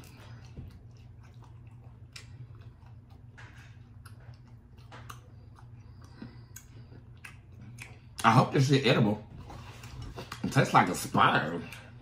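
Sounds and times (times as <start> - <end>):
close chewing and mouth sounds: 0.0 - 12.0
steady low hum: 0.0 - 12.0.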